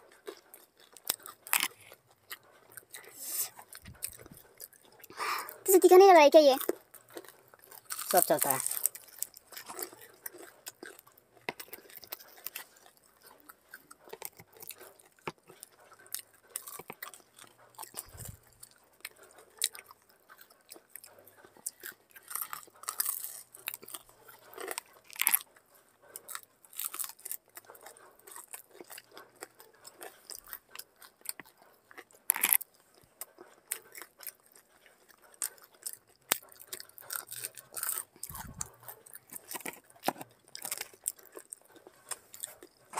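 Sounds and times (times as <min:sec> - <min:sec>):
fried pastry crunching: 0:00.0 - 0:42.9.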